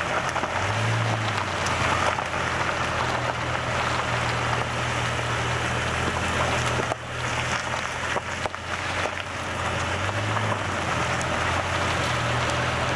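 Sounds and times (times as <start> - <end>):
low engine drone: 0.0 - 12.9
small stones popping: 0.0 - 12.9
tyre crunching over gravel: 0.0 - 12.9.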